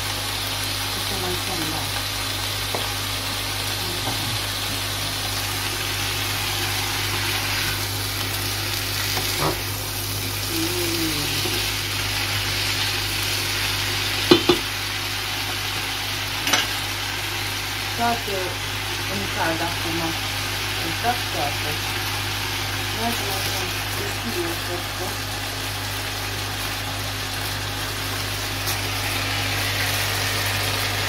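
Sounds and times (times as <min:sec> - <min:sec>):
vegetables sizzling in a pan: 0:00.0 - 0:31.0.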